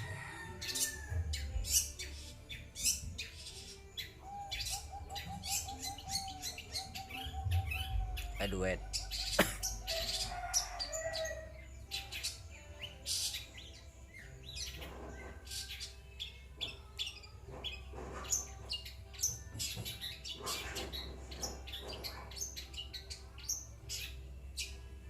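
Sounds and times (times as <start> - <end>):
bird singing chirps and whistles: 0.6 - 24.9.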